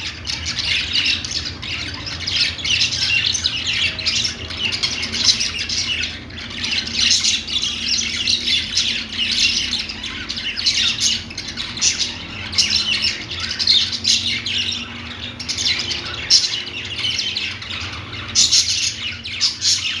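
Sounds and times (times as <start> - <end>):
budgies chattering and warbling: 0.0 - 20.0.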